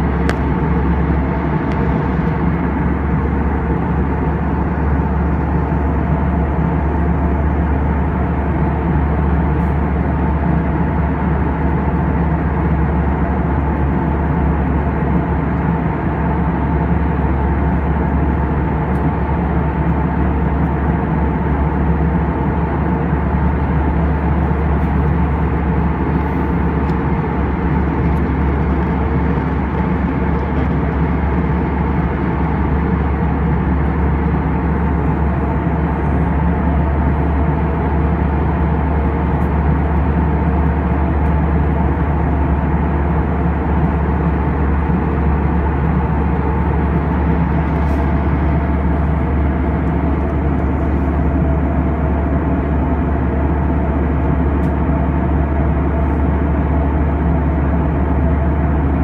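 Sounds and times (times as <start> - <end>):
jet engines deep rumble: 0.0 - 59.0.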